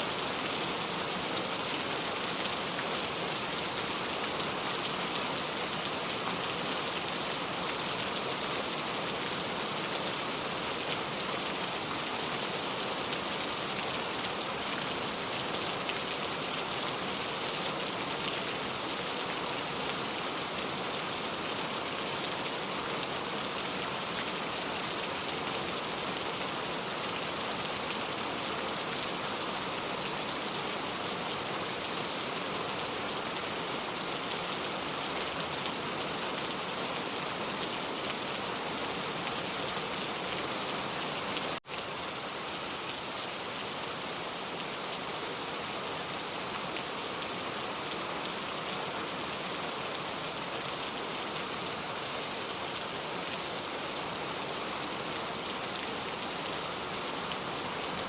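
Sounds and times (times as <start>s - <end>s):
pouring rain: 0.0s - 58.0s.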